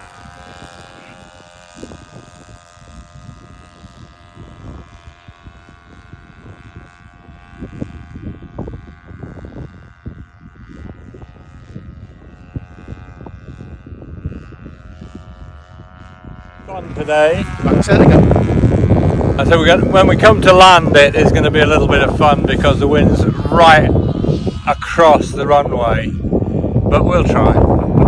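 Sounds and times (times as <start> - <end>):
model engine buzzing: 0.0 - 28.0
wind rumbling on microphone: 0.0 - 28.0.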